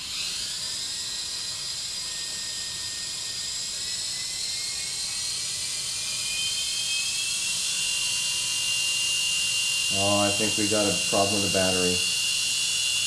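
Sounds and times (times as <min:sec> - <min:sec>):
toy helicopter rotors whirring: 0:00.0 - 0:13.0.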